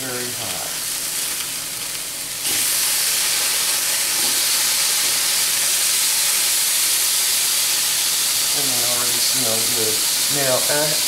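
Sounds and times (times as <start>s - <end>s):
steak sizzling in skillet: 0.2s - 11.0s.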